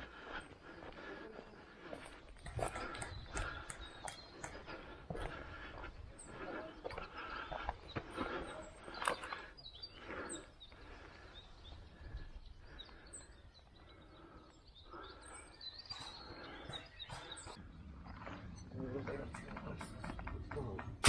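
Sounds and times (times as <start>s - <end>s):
outdoor rustle: 0.0s - 12.0s, 12.6s - 21.0s
faint birds chirping: 0.0s - 21.0s.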